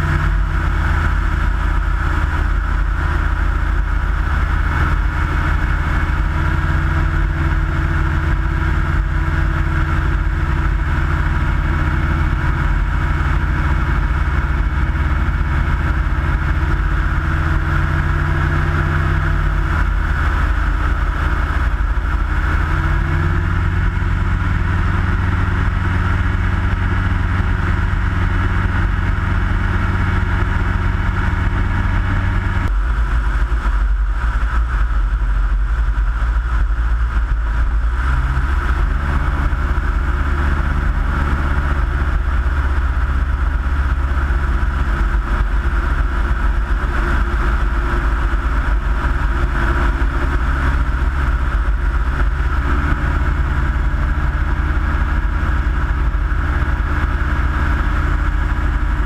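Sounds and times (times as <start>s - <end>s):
light airplane engine and propeller: 0.0s - 59.0s.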